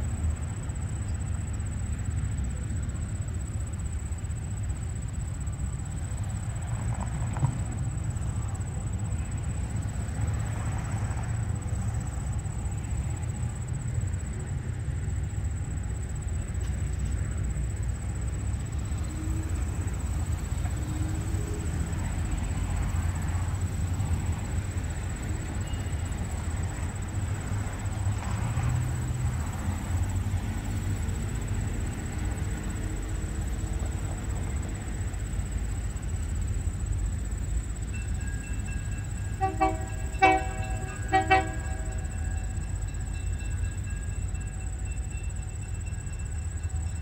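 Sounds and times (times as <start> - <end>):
diesel locomotive rumbling: 0.0 - 47.0.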